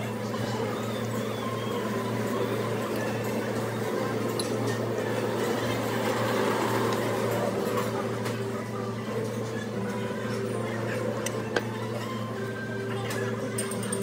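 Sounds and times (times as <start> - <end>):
faint chatter: 0.0 - 14.0.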